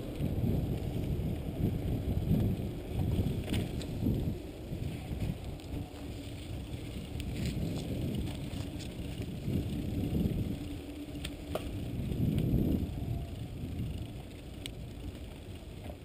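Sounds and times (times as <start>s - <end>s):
bike rattling clicks: 0.0s - 16.0s
tyres rumbling on rough path: 0.0s - 16.0s
wind on microphone: 0.0s - 16.0s.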